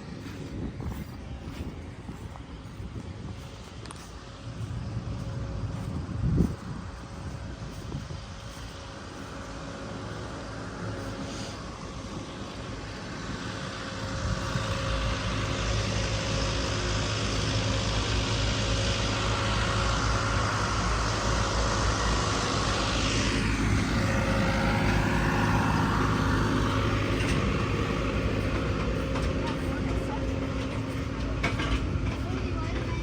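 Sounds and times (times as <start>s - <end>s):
engine whine: 0.0s - 33.0s
large engine running: 0.0s - 33.0s.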